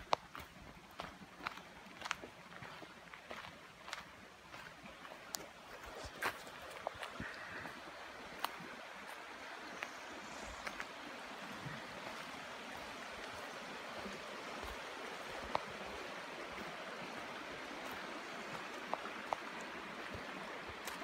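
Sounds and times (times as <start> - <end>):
creek flowing over rocks: 0.0 - 21.0.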